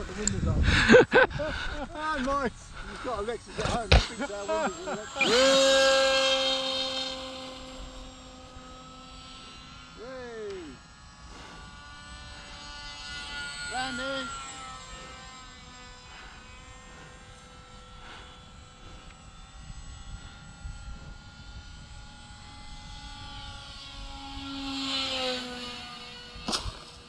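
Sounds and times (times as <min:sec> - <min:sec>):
model airplane motor whining: 0:00.0 - 0:27.0.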